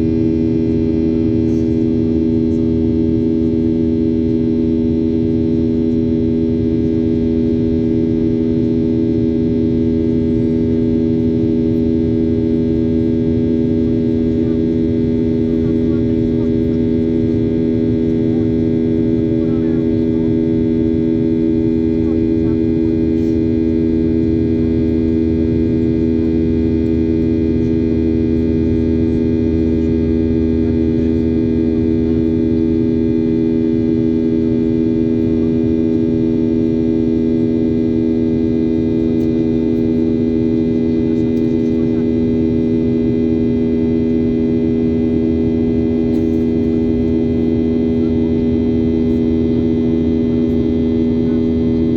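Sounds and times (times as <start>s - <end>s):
jet engine cabin drone: 0.0s - 51.9s.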